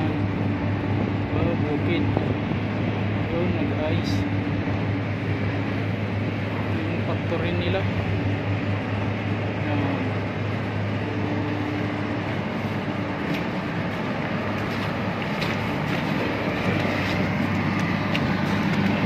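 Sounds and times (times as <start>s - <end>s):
industrial machinery droning: 0.0s - 19.0s.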